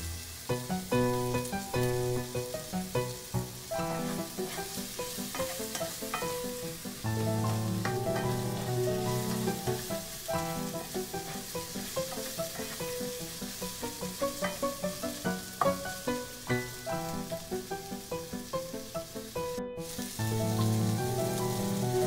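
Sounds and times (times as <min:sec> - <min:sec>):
onions sizzling in a pan: 0:00.0 - 0:22.0
melodic background music: 0:00.6 - 0:22.0.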